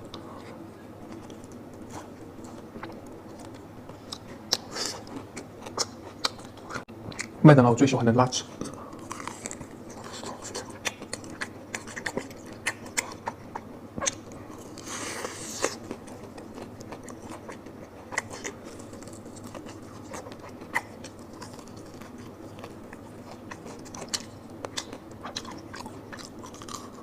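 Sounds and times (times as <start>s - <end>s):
chewing crispy food: 0.1s - 7.3s, 8.6s - 27.0s.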